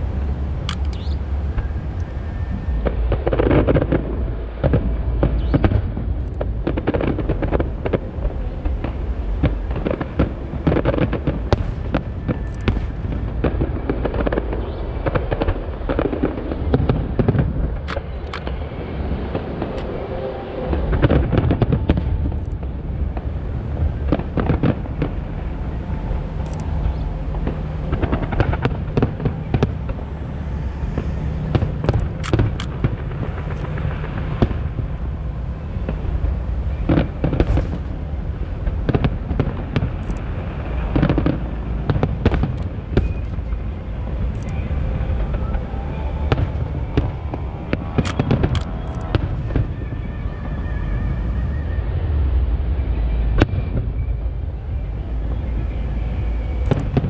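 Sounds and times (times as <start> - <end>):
continuous low rumble: 0.0 - 57.0
fireworks bursting: 0.0 - 57.0.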